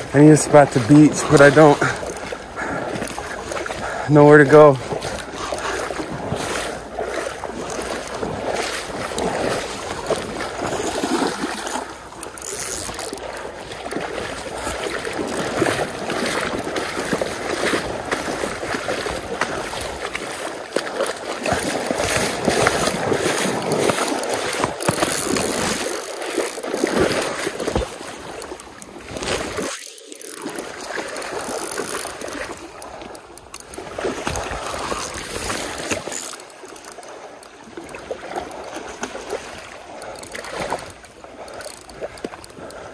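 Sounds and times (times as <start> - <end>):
stream rushing: 0.0 - 42.9
water splashing around wading legs: 0.0 - 42.9.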